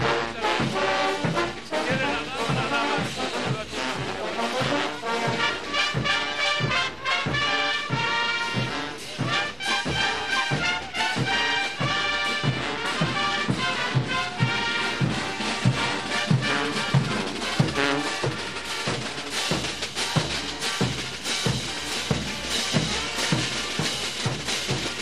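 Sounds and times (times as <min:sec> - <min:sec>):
bass drum beat: 0:00.0 - 0:25.0
brass chords: 0:00.0 - 0:25.0.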